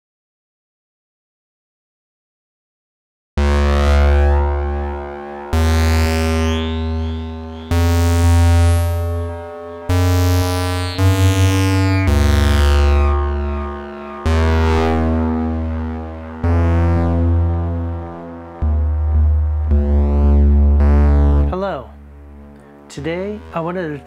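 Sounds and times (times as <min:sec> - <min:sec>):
synthesizer bass notes: 0:03.4 - 0:23.9.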